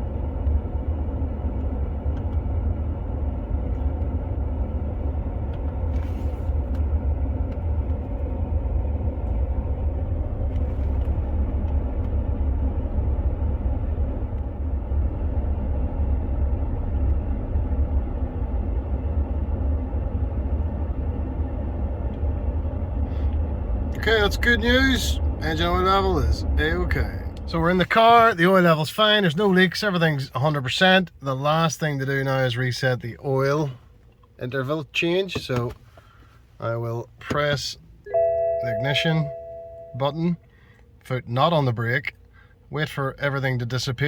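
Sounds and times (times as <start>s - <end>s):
diesel engine idling: 0.0s - 34.1s, 35.8s - 41.0s.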